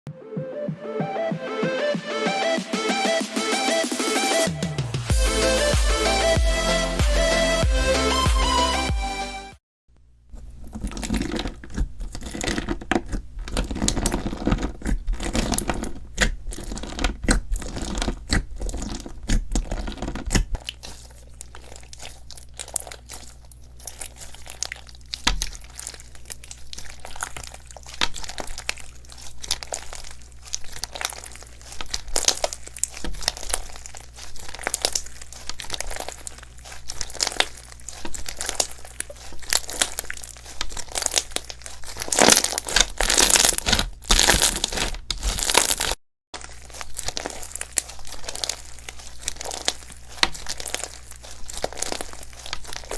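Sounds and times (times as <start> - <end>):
slime squished by hand: 10.4 - 52.9.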